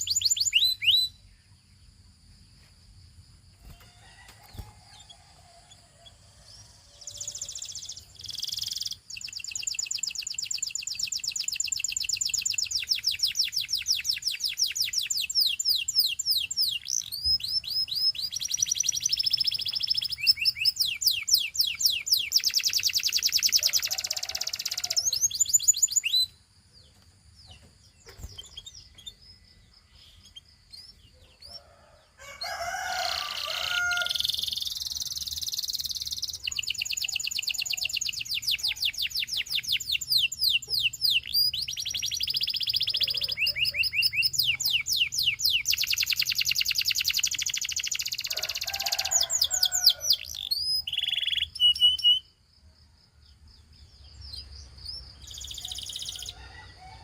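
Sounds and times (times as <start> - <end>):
canary singing trills: 0.0 - 2.0, 3.6 - 52.4, 53.6 - 56.8
faint chirps: 0.0 - 56.9.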